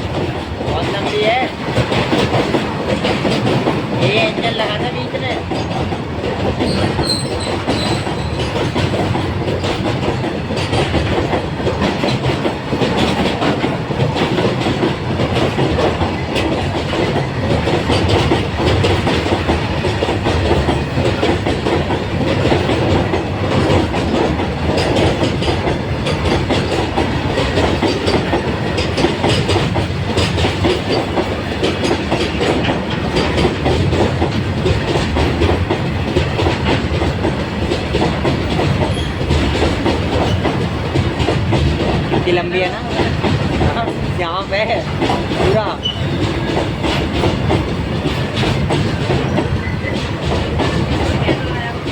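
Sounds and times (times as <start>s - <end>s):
freight train wheels clacking: 0.0s - 51.9s.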